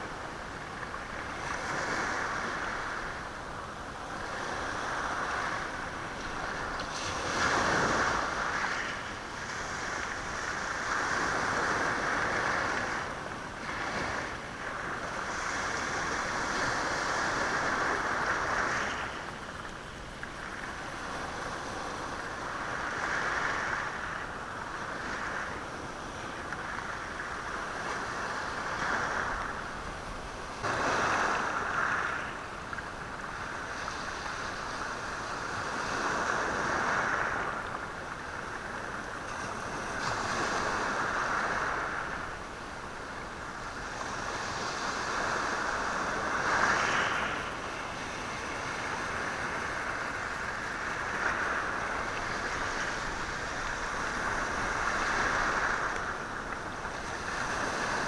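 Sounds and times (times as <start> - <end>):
waves washing over rocky shore: 0.0 - 32.7, 33.3 - 58.0.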